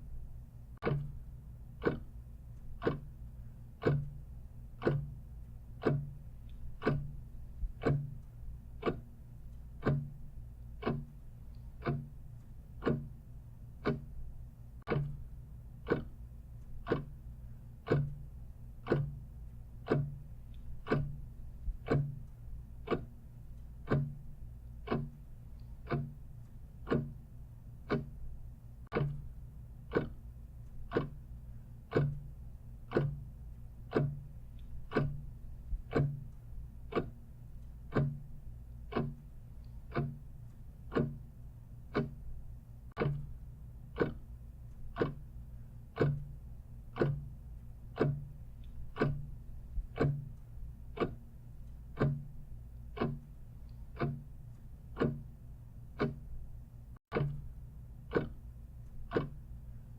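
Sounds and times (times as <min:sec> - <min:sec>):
clock ticking: 0:00.0 - 0:59.9
low steady hum: 0:00.0 - 0:59.9.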